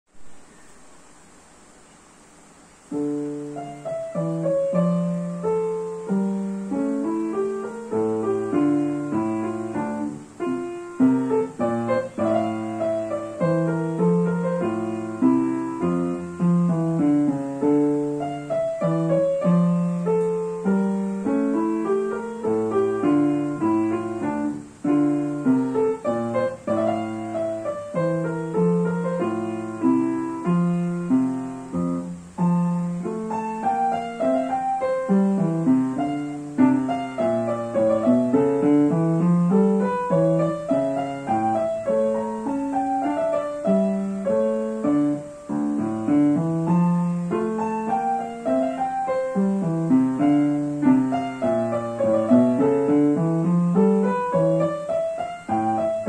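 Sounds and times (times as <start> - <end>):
upright piano playing a march: 2.9 - 56.0.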